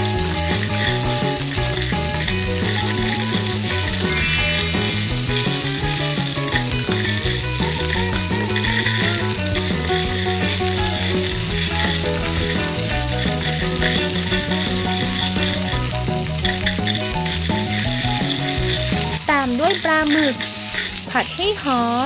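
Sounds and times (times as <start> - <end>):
frying sizzle: 0.0 - 22.0
light background tune: 0.0 - 22.0
plastic beads in toy pan: 0.0 - 22.0.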